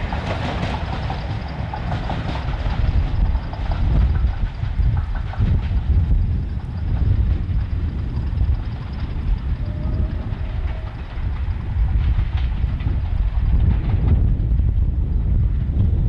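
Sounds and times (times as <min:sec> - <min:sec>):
diesel locomotive engine rumbling: 0:00.0 - 0:16.0
train wheels clicking on track: 0:00.0 - 0:16.0.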